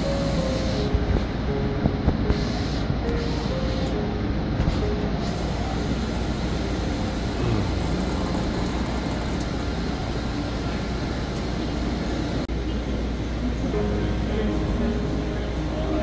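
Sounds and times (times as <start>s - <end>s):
busy exhibition hall din: 0.0s - 16.0s.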